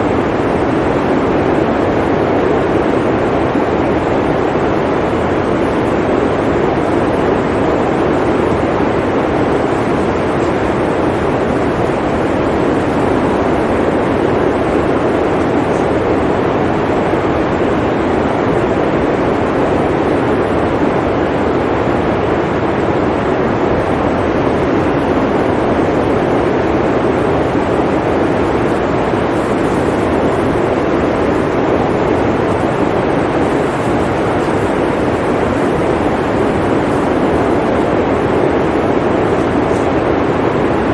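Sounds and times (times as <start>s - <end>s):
blizzard wind blowing: 0.0s - 40.9s.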